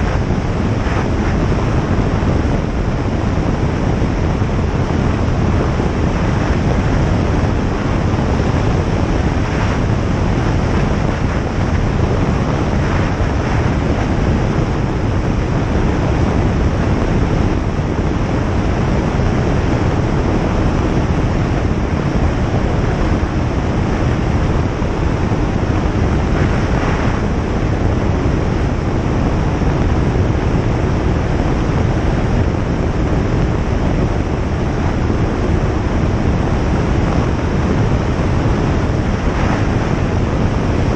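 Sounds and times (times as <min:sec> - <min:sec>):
airflow rushing: 0:00.0 - 0:40.9
light aircraft engine drone: 0:00.0 - 0:40.9.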